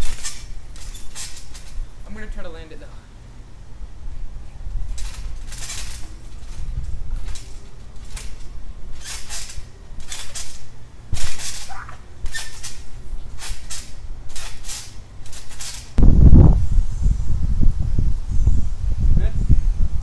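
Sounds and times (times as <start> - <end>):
trampoline springs creaking: 0.0 - 16.8
steady low rumble: 0.0 - 20.0.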